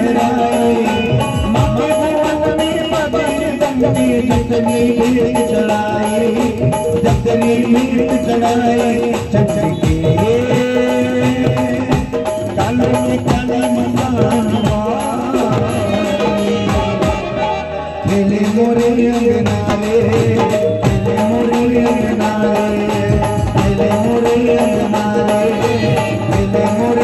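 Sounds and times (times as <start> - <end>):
hand drums driving rhythm: 0.0 - 27.0
harmonium and keyboard: 0.0 - 27.0.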